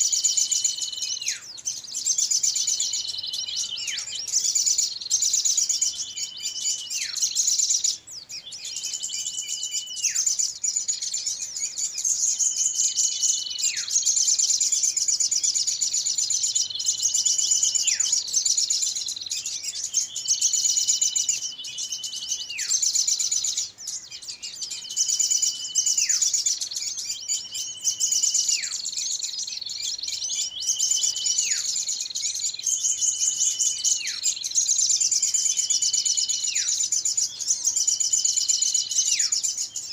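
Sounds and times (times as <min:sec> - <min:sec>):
high twittering of small birds: 0:00.0 - 0:39.9.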